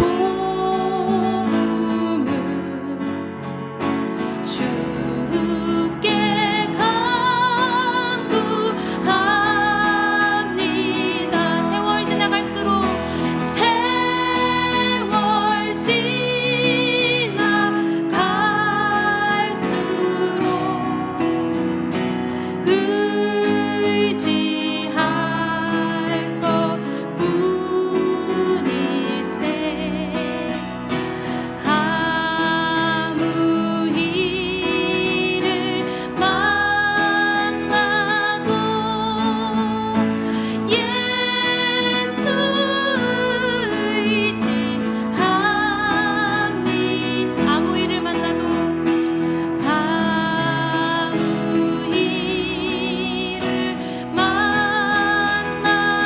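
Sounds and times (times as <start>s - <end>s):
keyboard accompaniment: 0.0s - 56.0s
person singing with vibrato: 0.0s - 56.0s.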